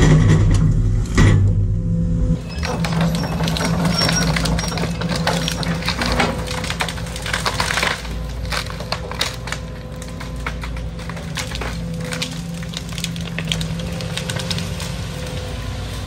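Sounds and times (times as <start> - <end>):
excavator engine running: 0.0 - 16.0
debris cracking and clattering: 2.4 - 16.0.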